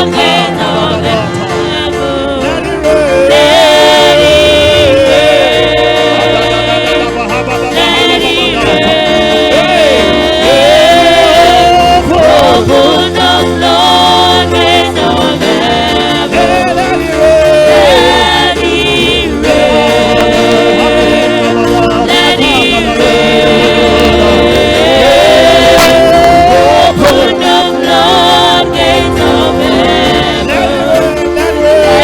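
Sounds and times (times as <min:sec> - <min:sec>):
instrumental accompaniment of held chords: 0:00.0 - 0:32.0
voices singing gospel: 0:00.0 - 0:32.0.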